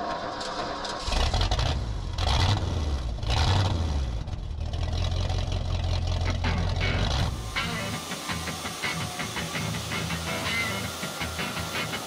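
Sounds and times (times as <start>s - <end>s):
truck engine starting and revving: 0.0s - 12.0s.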